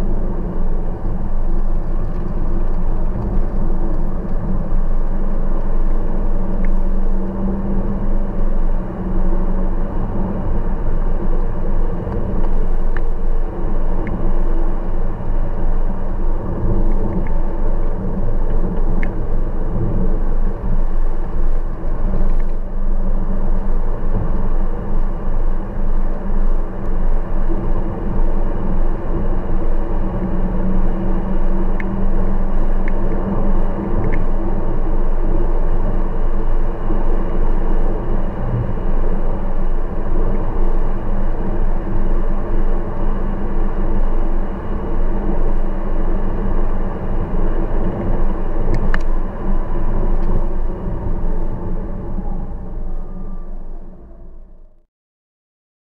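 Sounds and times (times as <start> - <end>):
car engine hum: 0.0 - 54.8.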